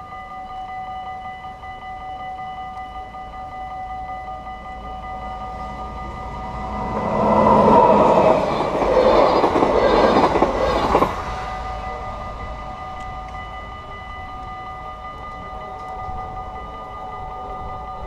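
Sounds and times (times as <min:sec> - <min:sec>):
crossing warning bells ringing: 0:00.0 - 0:18.0
train passing over level crossing: 0:00.0 - 0:18.0.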